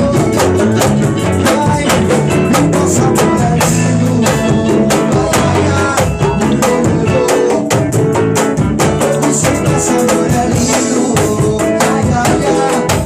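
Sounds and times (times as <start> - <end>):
upbeat band music: 0.0 - 13.0.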